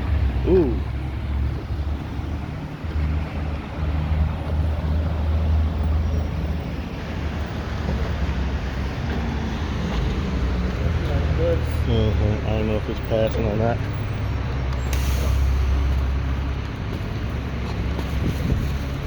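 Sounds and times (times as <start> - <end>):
city traffic rumble: 0.0 - 19.0
vehicles passing: 0.0 - 19.0.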